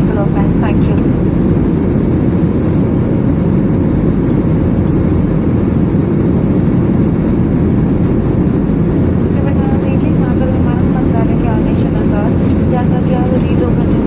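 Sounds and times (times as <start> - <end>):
jet airliner cabin noise: 0.0 - 14.0.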